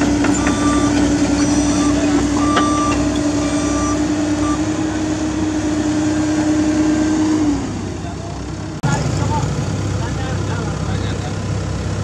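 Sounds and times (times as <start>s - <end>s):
excavator engines with hydraulic whine: 0.0s - 12.0s.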